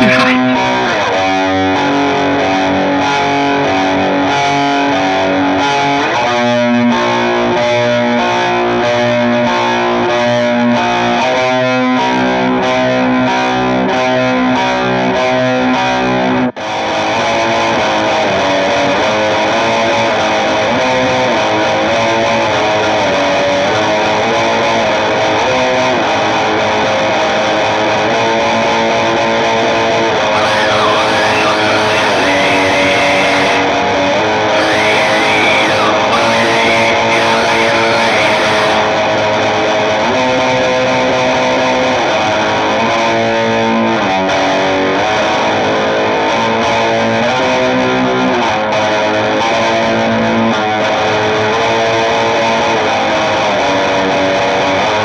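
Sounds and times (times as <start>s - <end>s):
distorted electric guitar music: 0.0s - 55.0s.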